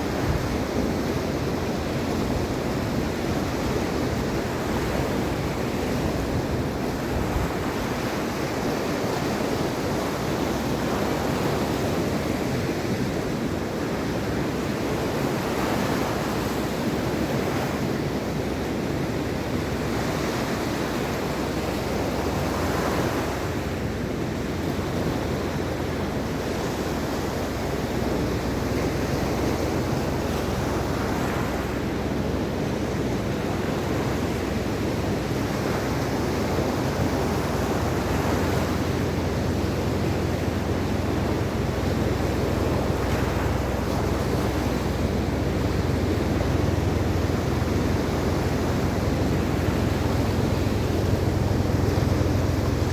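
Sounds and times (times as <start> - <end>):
waves breaking on shore: 0.0 - 52.9
wind on microphone: 0.0 - 52.9.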